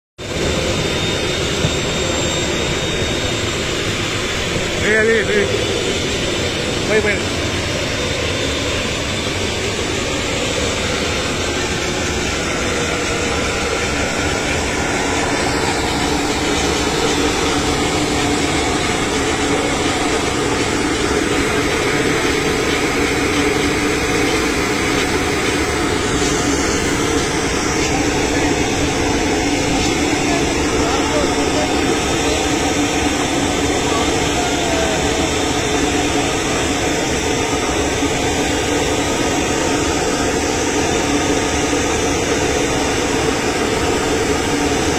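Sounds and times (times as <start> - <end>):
jet turbine whine: 0.2 - 44.9.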